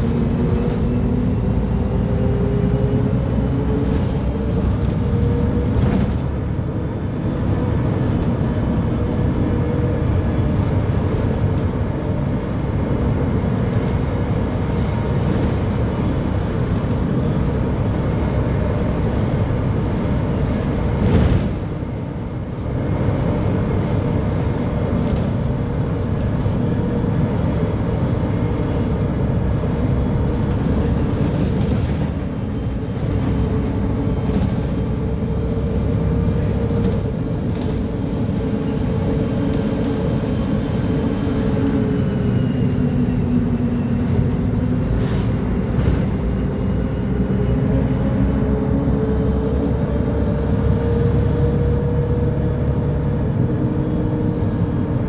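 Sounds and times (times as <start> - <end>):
bus diesel engine droning: 0.0 - 55.0
wavering engine whine: 0.0 - 55.0.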